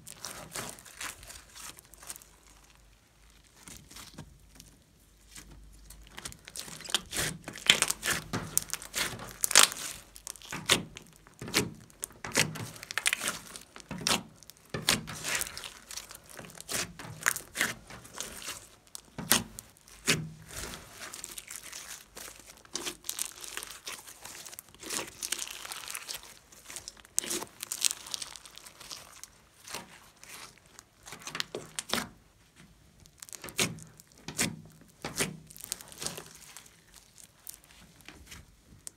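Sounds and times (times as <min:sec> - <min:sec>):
slime squelching and crackling: 0:00.0 - 0:38.9.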